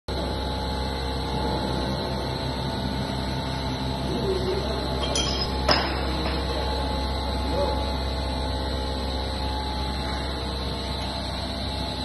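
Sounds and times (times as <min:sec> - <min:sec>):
extrusion machine humming: 0:00.1 - 0:12.0.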